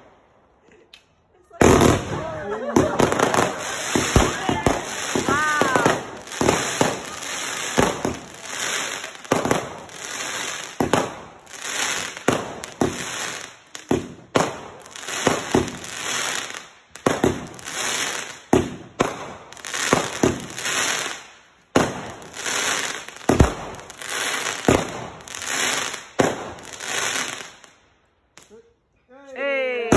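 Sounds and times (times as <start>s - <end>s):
fireworks bangs: 1.6s - 27.8s
fireworks crackle and hiss: 1.6s - 28.6s.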